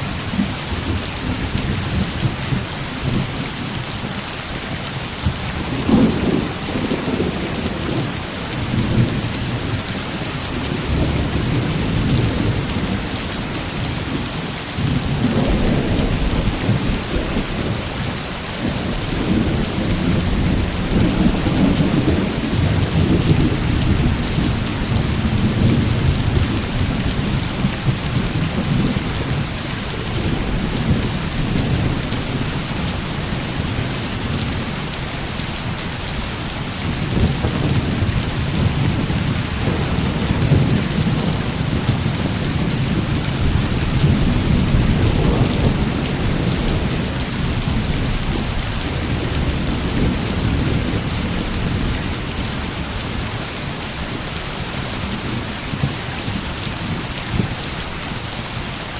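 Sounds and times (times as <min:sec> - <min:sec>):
heavy rain: 0:00.0 - 0:58.9
low thunder rumbling: 0:05.2 - 0:53.2.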